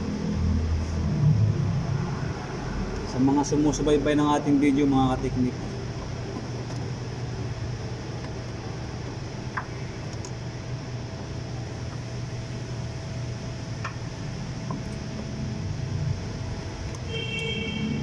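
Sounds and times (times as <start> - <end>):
faint whine: 0.0 - 18.0
low mechanical hum: 0.0 - 18.0.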